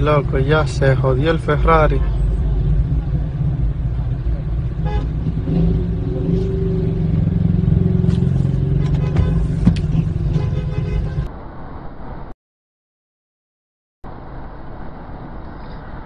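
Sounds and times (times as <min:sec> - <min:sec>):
car engine and road rumble: 0:00.0 - 0:12.3, 0:14.0 - 0:16.0.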